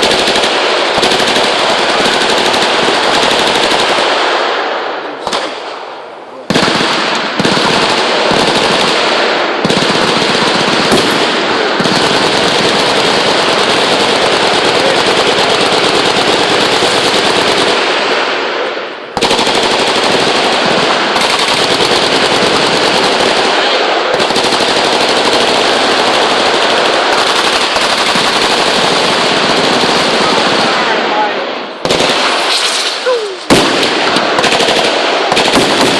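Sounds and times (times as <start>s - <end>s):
machine guns firing automatic: 0.0s - 4.6s, 6.5s - 35.9s.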